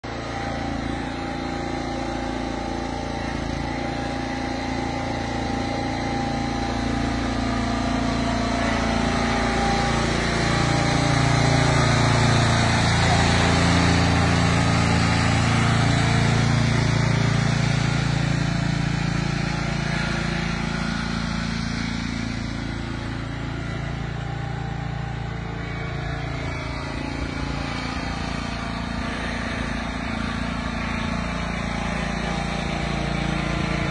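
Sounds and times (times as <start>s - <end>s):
riding lawn mower engine: 0.0s - 33.9s.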